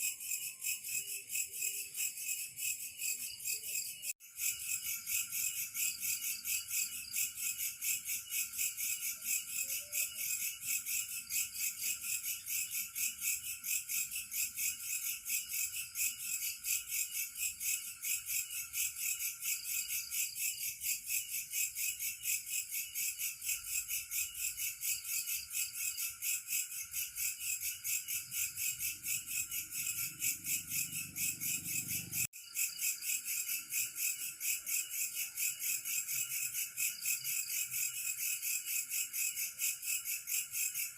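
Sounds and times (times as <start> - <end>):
crickets chirping: 0.0 - 40.9
high insect drone: 0.0 - 40.9.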